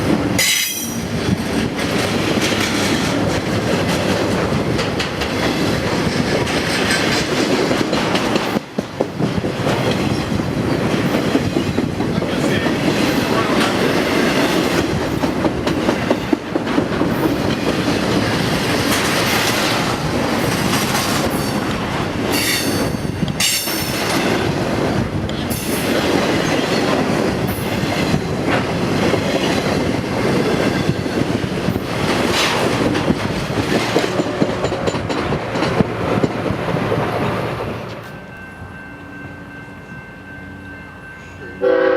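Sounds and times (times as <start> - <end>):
train wheels clattering over rails: 0.0 - 38.2.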